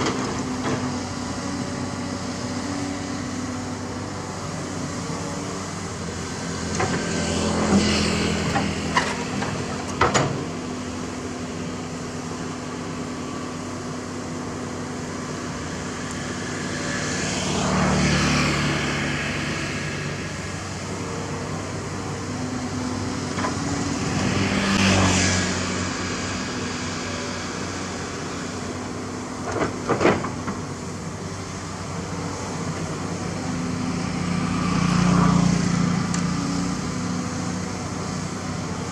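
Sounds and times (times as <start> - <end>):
excavator engine hum: 0.0 - 38.9.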